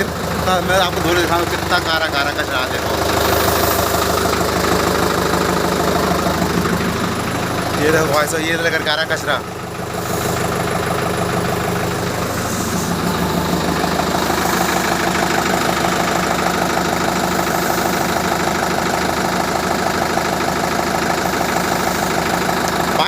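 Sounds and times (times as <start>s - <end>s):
diesel tractor engine idling: 0.0s - 23.0s.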